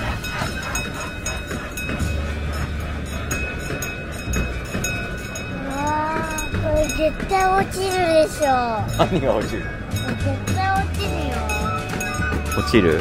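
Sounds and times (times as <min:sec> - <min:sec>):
miniature train rumbling on track: 0:00.0 - 0:13.0
thin steady ringing tone: 0:00.0 - 0:13.0.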